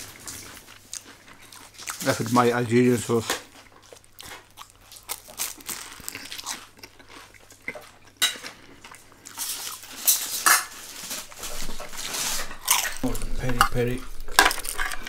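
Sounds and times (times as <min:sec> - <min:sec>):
crunchy food being chewed: 0:00.0 - 0:13.5.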